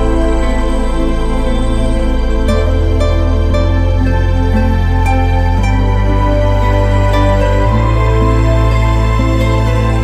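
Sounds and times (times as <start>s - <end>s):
slow calm instrumental music: 0.0s - 10.0s.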